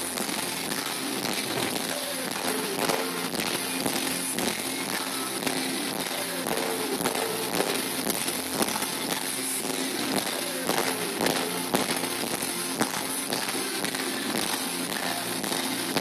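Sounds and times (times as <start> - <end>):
distorted live pop-rock band: 0.0 - 16.0.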